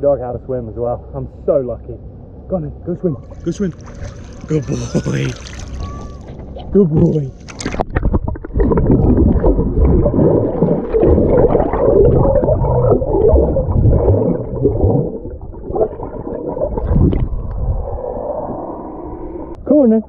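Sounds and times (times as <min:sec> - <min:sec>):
underwater churning and bubbling: 0:03.2 - 0:19.6.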